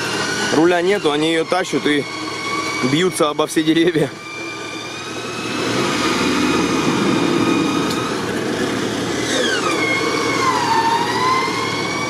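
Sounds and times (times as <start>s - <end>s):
electric winch whining: 0.0s - 12.0s
engine running: 0.0s - 12.0s.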